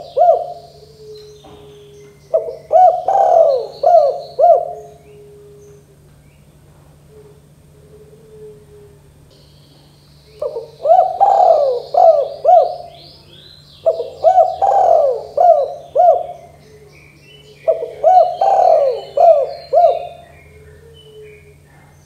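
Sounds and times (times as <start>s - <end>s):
dove cooing: 0.0s - 6.1s, 6.9s - 9.3s, 10.4s - 22.0s.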